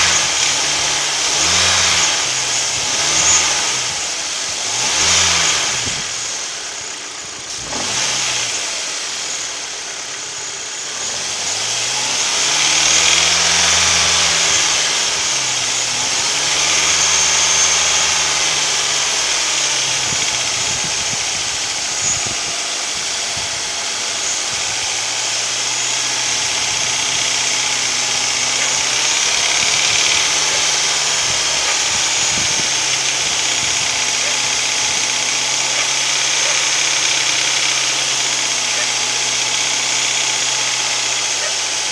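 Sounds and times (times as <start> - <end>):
car engine revving and idling: 0.0 - 41.9
engine knocking: 0.0 - 41.9.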